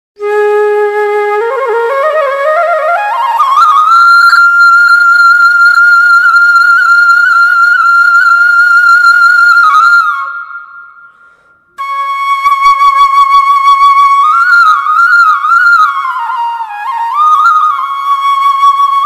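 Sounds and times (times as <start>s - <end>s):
flute holding long notes: 0.2s - 19.0s.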